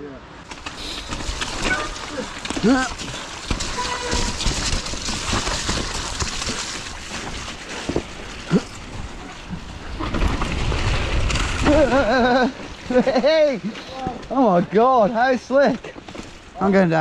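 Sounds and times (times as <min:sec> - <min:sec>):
bike rattling over bumps: 0:00.4 - 0:14.6
tyres rushing on wet dirt: 0:00.4 - 0:17.0.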